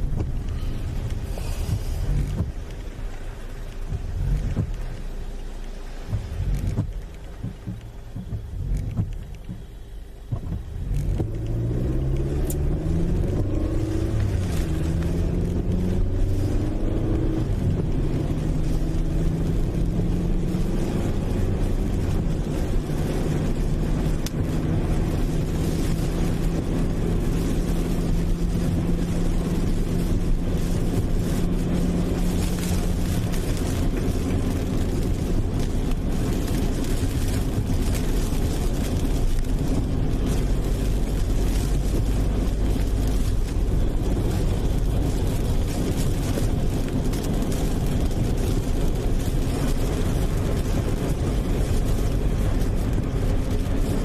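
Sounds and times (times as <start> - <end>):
vehicle engine accelerating: 3.8 - 54.0.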